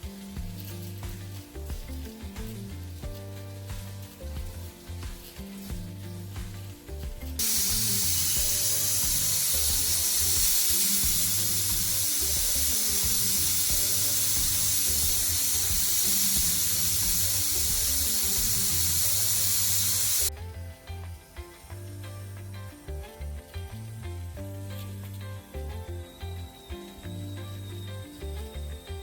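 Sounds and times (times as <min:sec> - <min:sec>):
background music: 0:00.0 - 0:29.0
loud steady hissing: 0:00.0 - 0:29.0.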